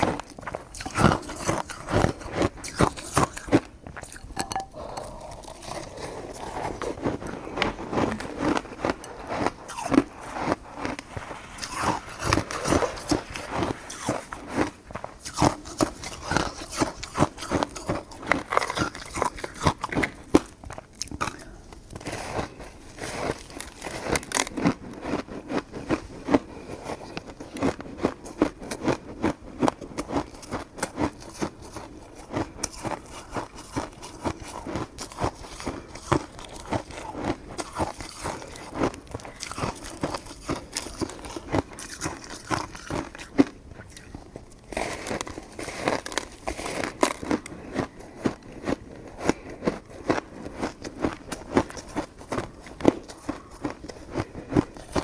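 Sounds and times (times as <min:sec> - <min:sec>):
biting and chewing mouth sounds: 0:00.0 - 0:55.0.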